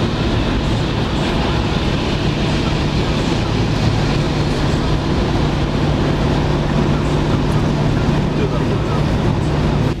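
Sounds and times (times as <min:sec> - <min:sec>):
engine hum: 0:00.0 - 0:10.0
tyre and road noise: 0:00.0 - 0:10.0.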